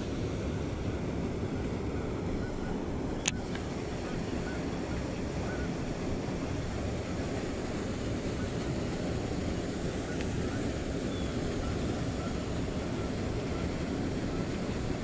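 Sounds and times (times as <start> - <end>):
low-pitched background noise: 0.0 - 15.0.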